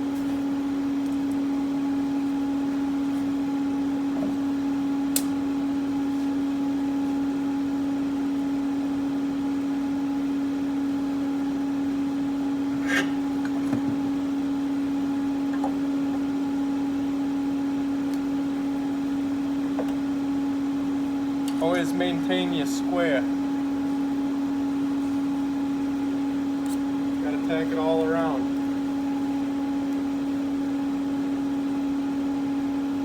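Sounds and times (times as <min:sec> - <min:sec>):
electrical machine hum: 0:00.0 - 0:33.0.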